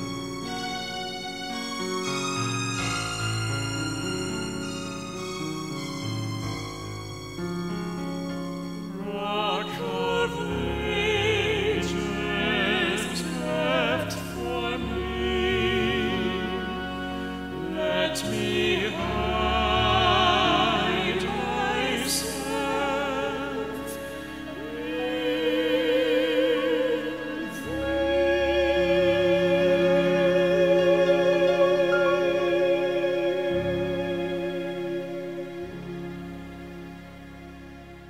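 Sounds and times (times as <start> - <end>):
slow background music: 0.0 - 38.0.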